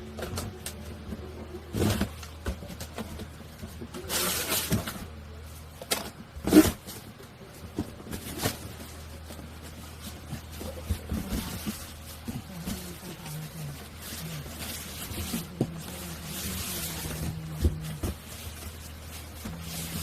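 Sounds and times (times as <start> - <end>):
objects rustling and knocking: 0.0 - 20.0
steady low hum: 0.0 - 20.0.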